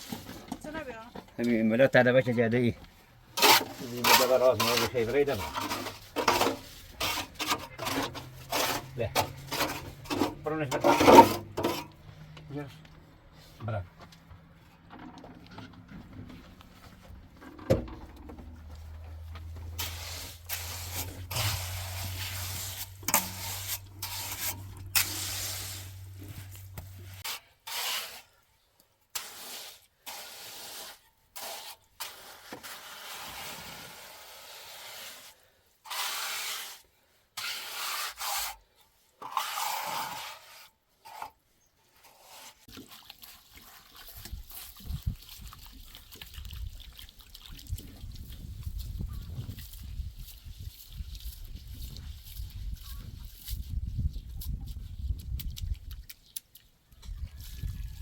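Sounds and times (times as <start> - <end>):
rubbing and scraping noises: 0.0 - 1.6, 2.3 - 58.0.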